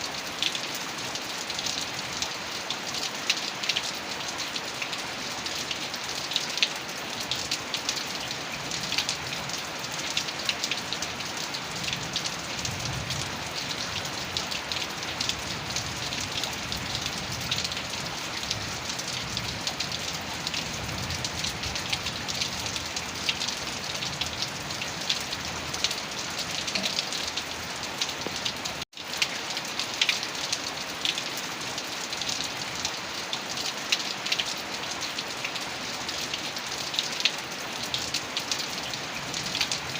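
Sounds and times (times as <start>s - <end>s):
heavy rain with drops spattering: 0.0s - 39.9s.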